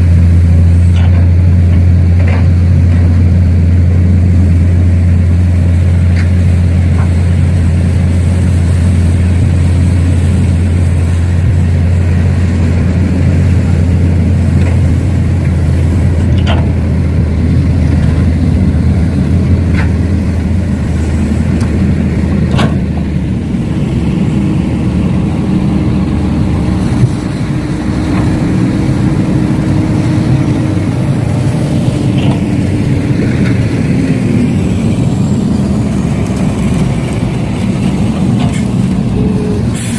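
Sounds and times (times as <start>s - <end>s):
heavy engine humming: 0.0s - 39.9s
steady whine: 0.0s - 39.9s.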